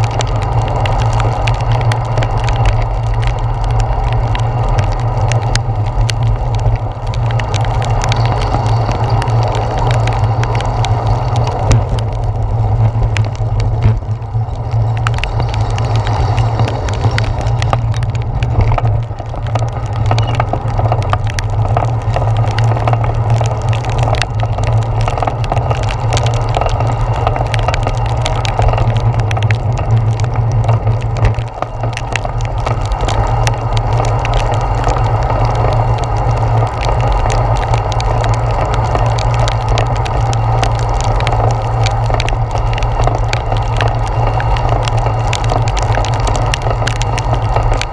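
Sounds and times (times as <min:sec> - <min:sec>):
bicycle rolling rumble: 0:00.0 - 0:47.9
rain pattering on camera housing: 0:00.0 - 0:47.9.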